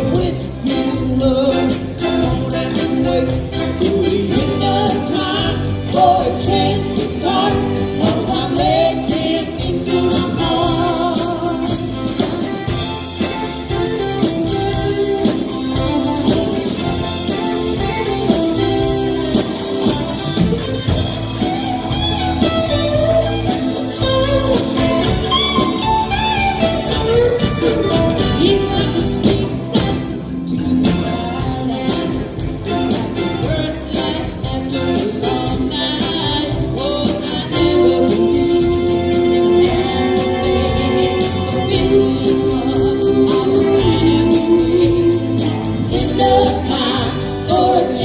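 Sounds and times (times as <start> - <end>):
women singing lead: 0.0 - 19.7, 22.6 - 48.0
electric guitar: 0.0 - 48.0
keyboard: 0.0 - 48.0.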